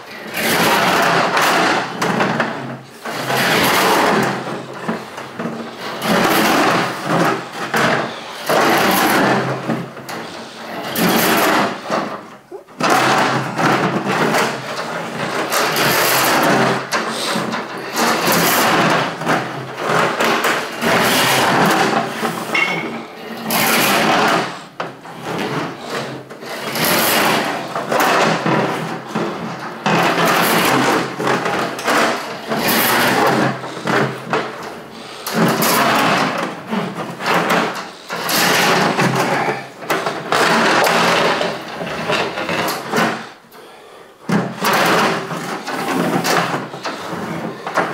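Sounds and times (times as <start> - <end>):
steel cable rattling and scraping: 0.0 - 43.4, 44.3 - 47.9
drain cleaning machine running: 0.0 - 47.9.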